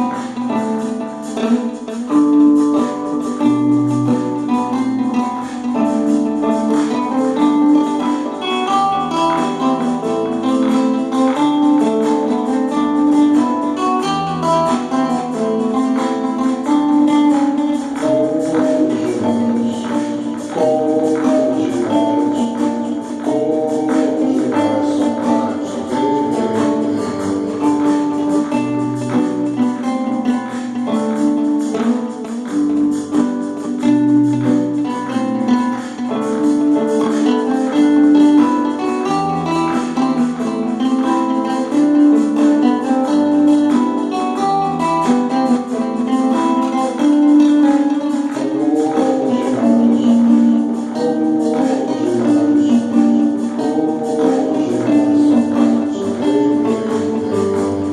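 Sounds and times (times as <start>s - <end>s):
acoustic guitar melody: 0.0s - 57.9s
drum machine beat: 0.0s - 57.9s
tambourine: 0.0s - 57.9s.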